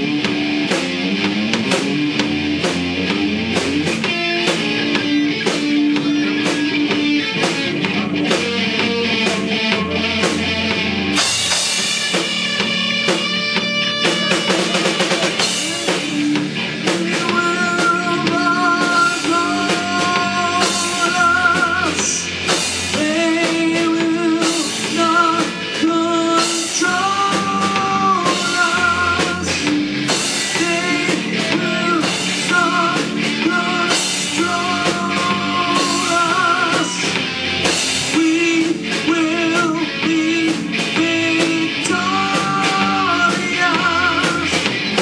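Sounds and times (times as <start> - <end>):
lead guitar bending notes: 0.0 - 45.0
rock band playing: 0.0 - 45.0.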